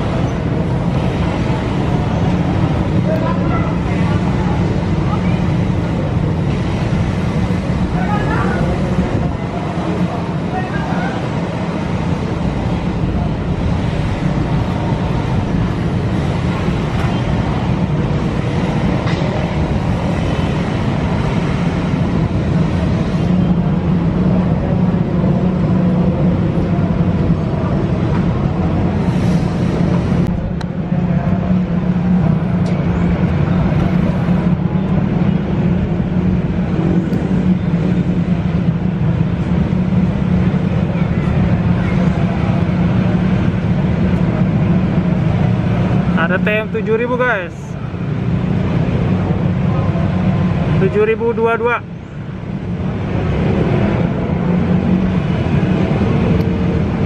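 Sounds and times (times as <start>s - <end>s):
city traffic: 0.0s - 57.0s
electric trains rumbling: 0.0s - 57.0s.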